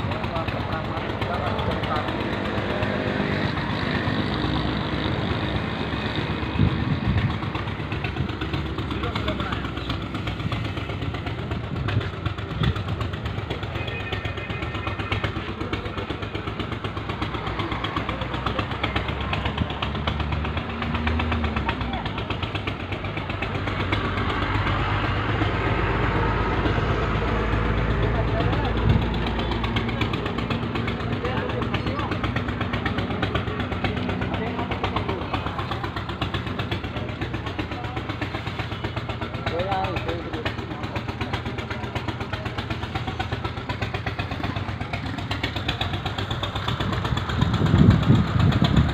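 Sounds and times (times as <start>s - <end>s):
engine knocks: 0.0s - 48.9s
tractor diesel engine idling: 0.0s - 48.9s.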